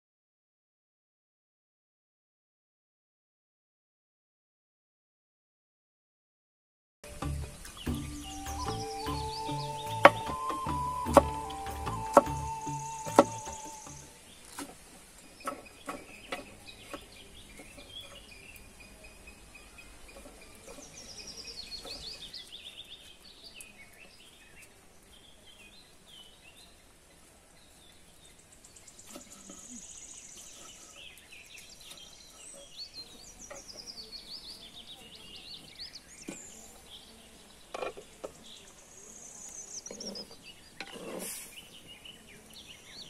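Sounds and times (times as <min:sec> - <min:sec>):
birds singing: 0:07.0 - 0:43.0.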